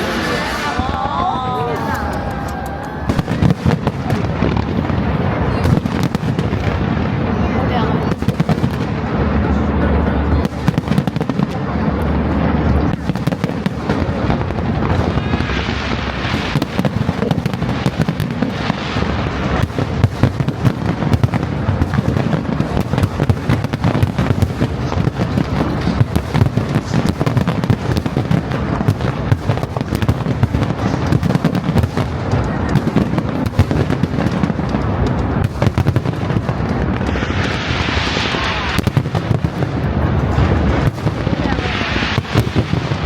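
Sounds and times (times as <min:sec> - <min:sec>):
fireworks bursts: 0:00.0 - 0:43.0.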